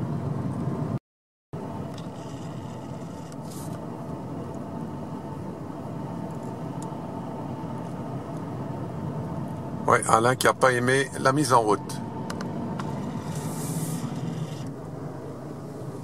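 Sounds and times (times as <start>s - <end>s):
car engine and tyre noise: 0.0s - 1.0s, 1.6s - 16.0s.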